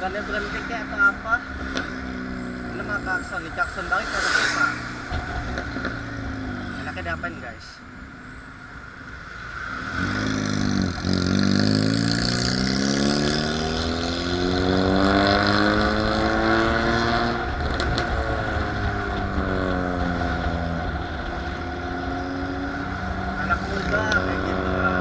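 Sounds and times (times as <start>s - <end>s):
vehicle engine accelerating: 0.2s - 7.4s, 9.7s - 25.0s.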